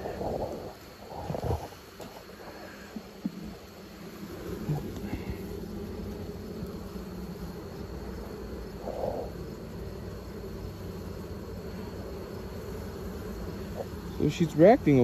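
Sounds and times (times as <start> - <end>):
honey bees humming: 0.0 - 15.0.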